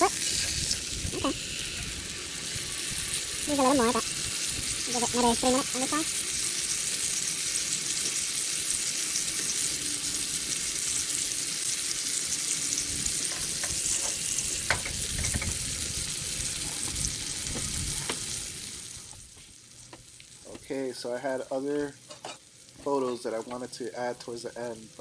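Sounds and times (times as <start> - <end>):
steak sizzling: 0.0 - 20.6, 21.4 - 25.0.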